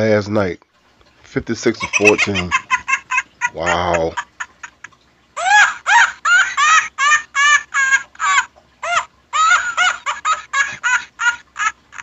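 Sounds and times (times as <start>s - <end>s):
high-pitched giggling: 1.8s - 12.0s.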